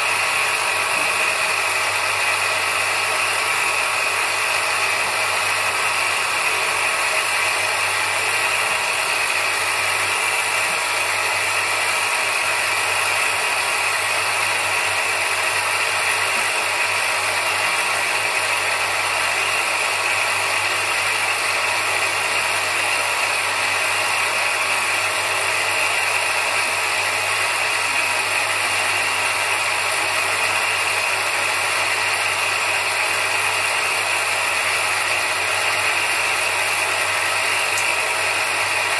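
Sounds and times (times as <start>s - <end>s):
bench grinder running: 0.0s - 38.9s.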